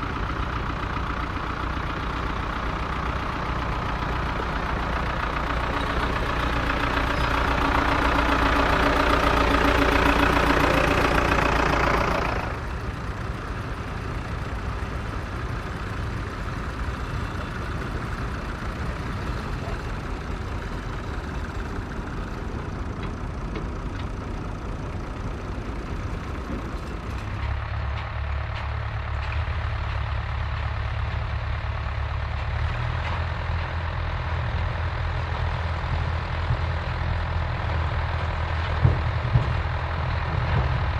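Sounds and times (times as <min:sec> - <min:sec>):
tractor engines running: 0:00.0 - 0:40.9.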